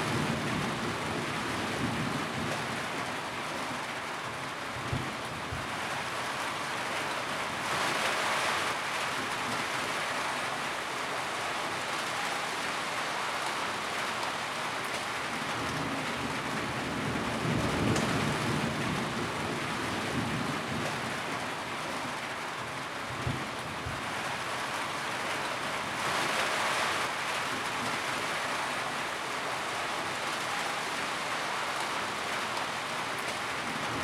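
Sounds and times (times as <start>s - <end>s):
rain drumming on a tin roof: 0.0s - 34.0s.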